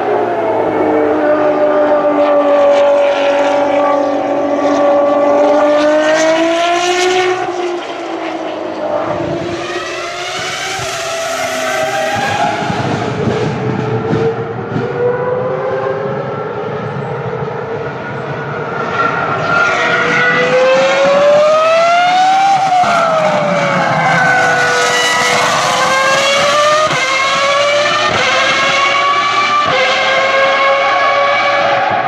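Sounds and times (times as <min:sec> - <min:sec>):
race car engine at high revs: 0:00.0 - 0:32.0.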